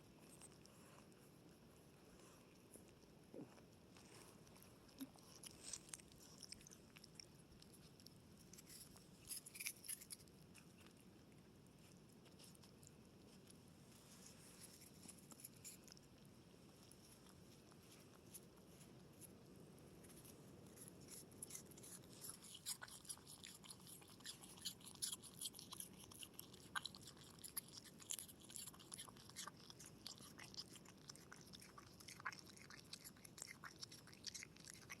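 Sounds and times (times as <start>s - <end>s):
animal chewing and crunching food: 0.0s - 35.0s.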